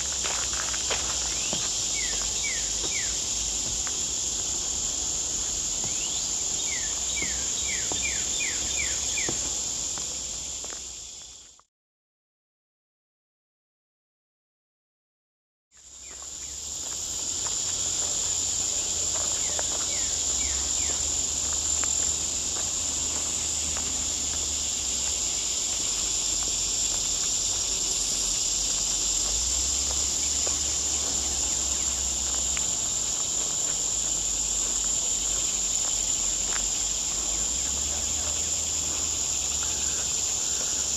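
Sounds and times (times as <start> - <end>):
insects droning: 0.0 - 11.6, 15.8 - 40.9.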